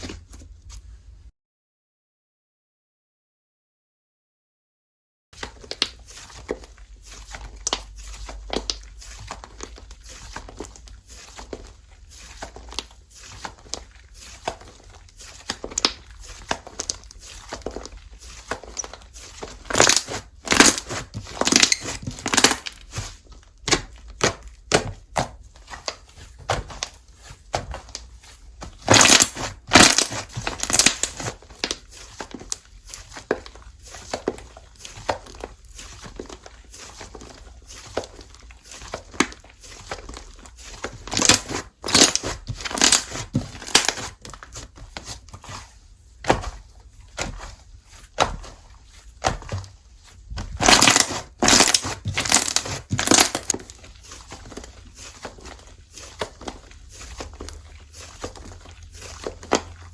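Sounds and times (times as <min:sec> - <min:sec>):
slime crackling and popping: 0:05.4 - 0:28.1, 0:28.7 - 0:45.4, 0:47.1 - 0:59.9.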